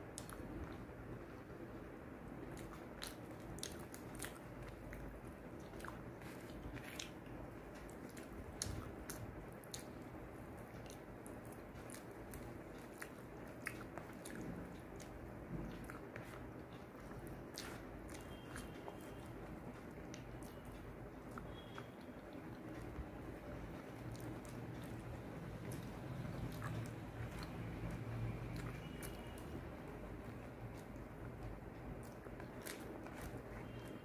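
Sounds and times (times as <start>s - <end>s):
person chewing with wet mouth clicks: 0.0s - 0.9s, 2.4s - 34.0s.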